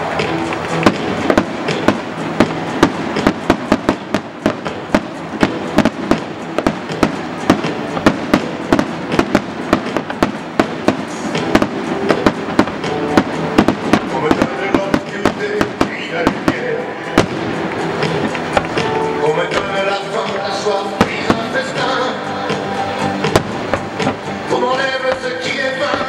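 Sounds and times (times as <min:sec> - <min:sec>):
fireworks bangs and crackles: 0:00.0 - 0:26.0
steady rumbling haze: 0:00.0 - 0:26.0.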